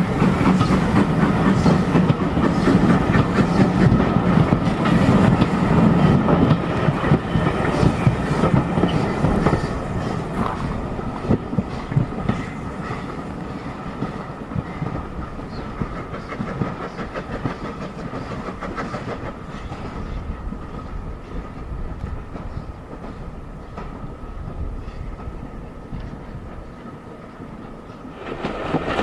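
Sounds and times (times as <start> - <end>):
railway carriage rumble: 0.0 - 29.0
train wheels clattering over rail joints: 0.0 - 29.0.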